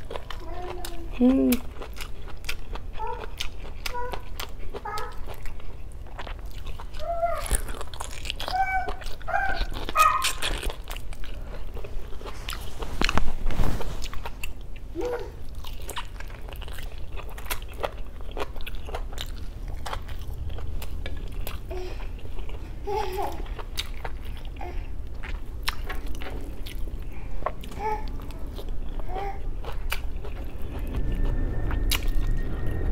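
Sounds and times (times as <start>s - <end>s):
chewing meat: 0.0s - 13.3s, 14.0s - 32.8s.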